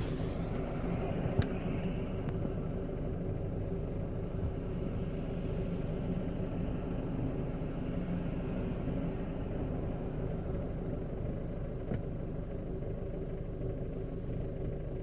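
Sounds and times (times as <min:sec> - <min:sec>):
car cabin low rumble: 0:00.0 - 0:15.0.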